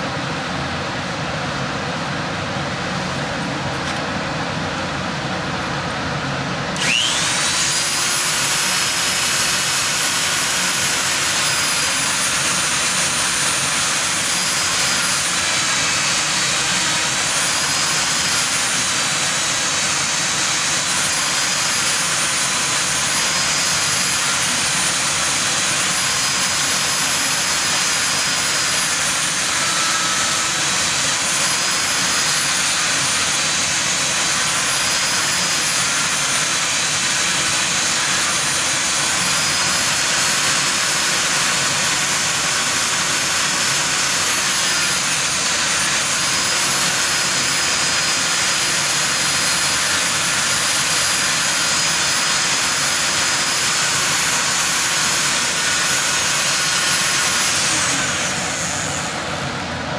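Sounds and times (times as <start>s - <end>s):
die grinder grinding metal: 6.8s - 59.4s.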